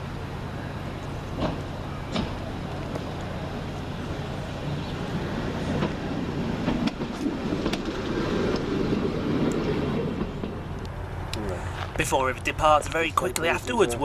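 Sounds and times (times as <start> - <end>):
railcar engine hum: 0.0 - 14.0
train rumbling: 0.0 - 14.0
wheels clicking over rail joints: 0.0 - 14.0.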